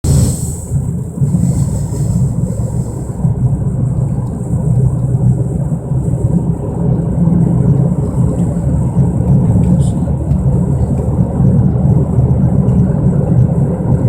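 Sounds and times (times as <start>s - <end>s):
car low droning noise: 0.0s - 14.0s.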